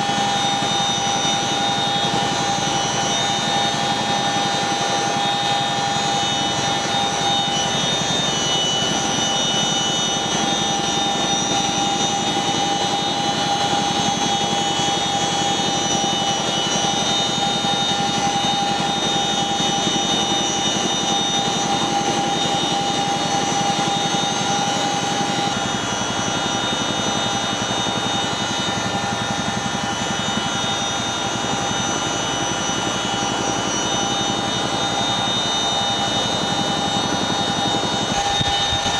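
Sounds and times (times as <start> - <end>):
helicopter engine and rotor noise: 0.0 - 38.9
helicopter turbine whine: 0.0 - 38.9.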